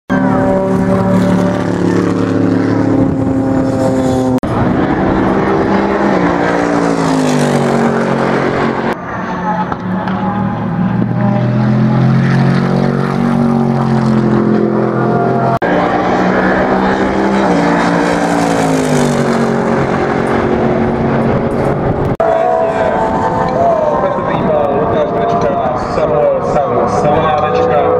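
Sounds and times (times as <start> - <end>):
race car engine at full throttle: 0.1 - 27.9.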